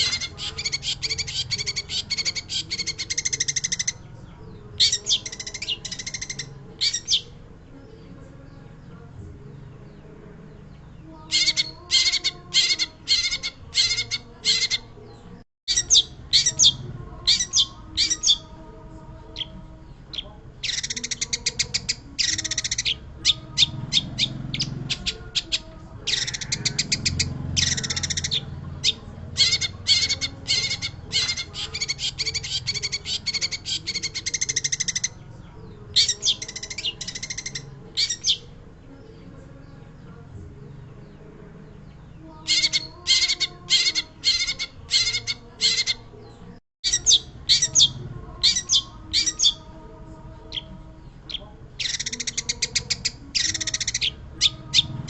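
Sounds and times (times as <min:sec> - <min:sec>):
bird chattering and trilling: 0:00.0 - 0:07.5, 0:09.8 - 0:18.6, 0:19.2 - 0:40.1, 0:40.8 - 0:55.0.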